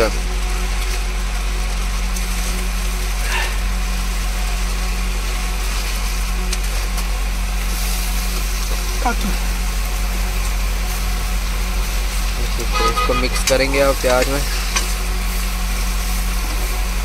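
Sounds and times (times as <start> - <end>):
frying in a pan: 0.0 - 17.0
gas stove burner hiss: 0.0 - 17.0
low hum: 0.0 - 17.0.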